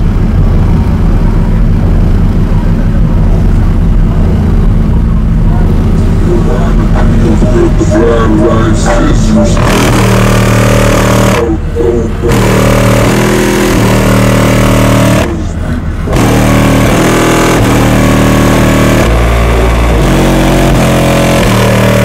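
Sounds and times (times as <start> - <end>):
loud bass music from car subwoofers: 0.0 - 22.0.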